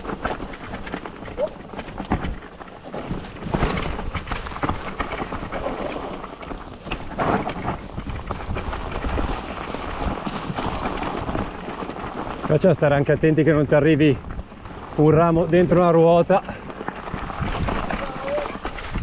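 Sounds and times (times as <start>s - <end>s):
bike clattering over bumps: 0.0s - 19.0s
tyres crunching over dirt and leaves: 0.0s - 19.0s
wind rumble on microphone: 0.0s - 19.0s.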